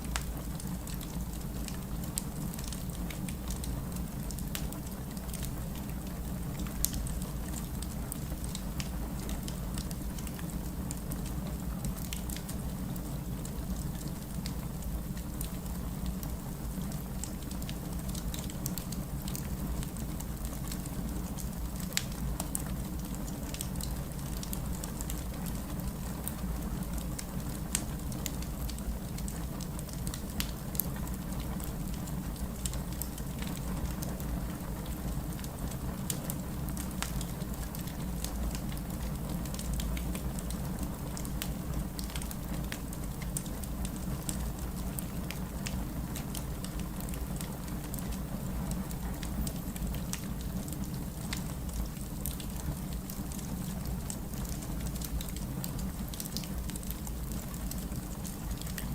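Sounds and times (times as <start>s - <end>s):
fire crackles and pops: 0.0s - 58.9s
campfire flames rumbling: 0.1s - 58.9s.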